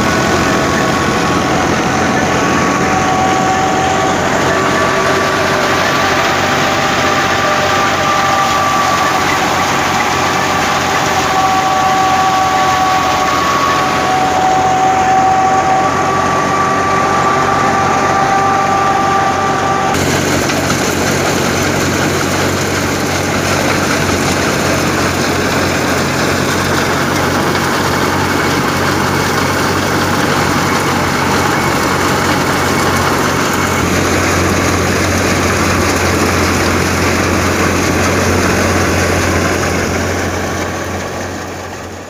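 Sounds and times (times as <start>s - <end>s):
thresher running: 0.0s - 42.0s
tractor diesel engine under load: 0.0s - 42.0s.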